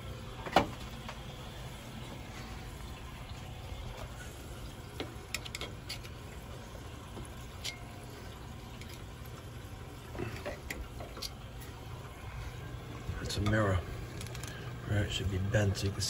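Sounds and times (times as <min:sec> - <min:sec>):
boiler burner humming: 0:00.0 - 0:16.0.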